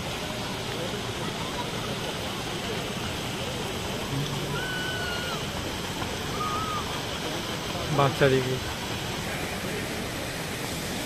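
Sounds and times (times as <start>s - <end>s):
faint crowd chatter: 0.0s - 11.0s
fountain jets spraying: 0.0s - 11.0s.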